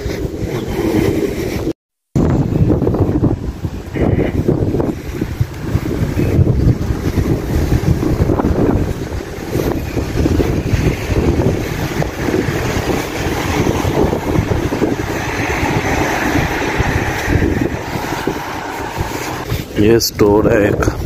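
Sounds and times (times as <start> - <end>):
wind buffeting microphone: 0.0 - 21.0
street traffic: 3.0 - 20.0.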